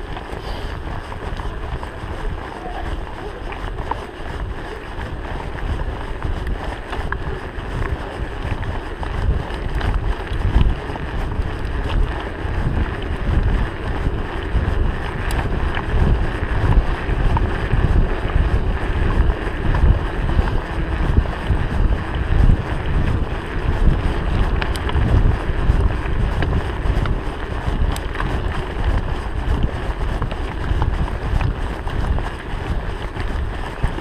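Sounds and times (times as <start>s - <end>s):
bike tyres rolling on gravel: 0.0s - 34.0s
small rattles and clicks: 0.0s - 34.0s
wind buffeting microphone: 0.0s - 34.0s.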